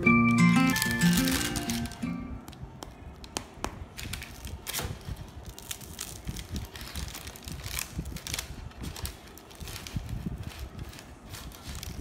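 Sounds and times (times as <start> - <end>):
parchment paper rustling: 0.4 - 3.1, 3.8 - 12.0.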